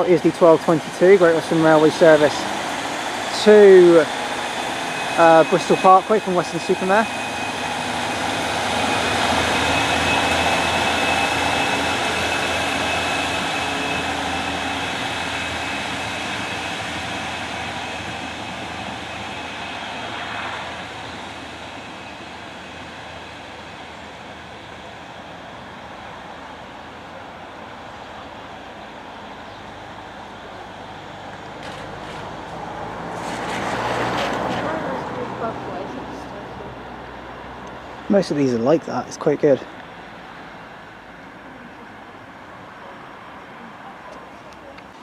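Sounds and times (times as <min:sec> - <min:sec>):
diesel train departing: 0:00.0 - 0:45.0.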